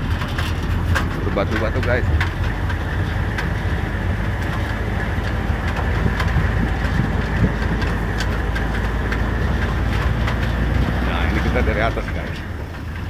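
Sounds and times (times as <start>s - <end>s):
motorcycle engine running: 0.0s - 13.0s
stones knocking and rattling: 0.0s - 13.0s.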